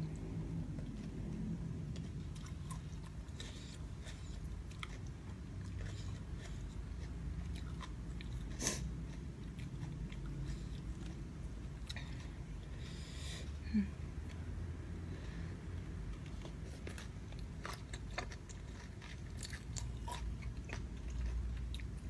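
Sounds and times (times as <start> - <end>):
person chewing food: 0.0 - 13.6, 15.5 - 22.0.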